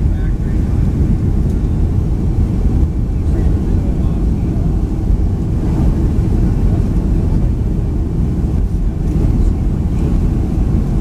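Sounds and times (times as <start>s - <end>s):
airplane cabin rumble of engines: 0.0s - 11.0s.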